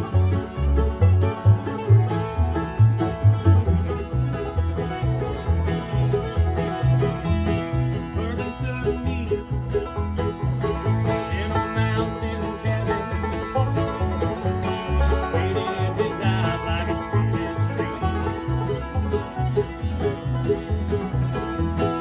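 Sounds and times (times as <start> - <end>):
plucked strings: 0.0 - 22.0
stepping bass line: 0.0 - 22.0.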